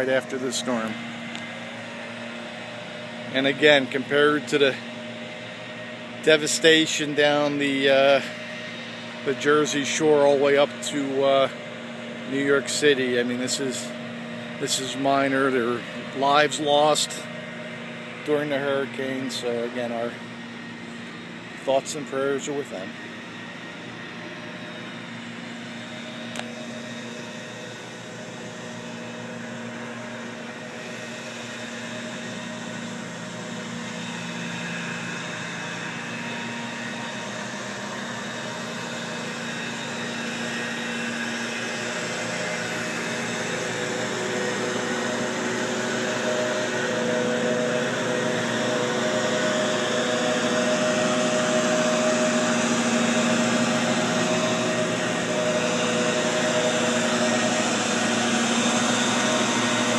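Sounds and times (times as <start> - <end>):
motor drone with hum: 0.0 - 59.9.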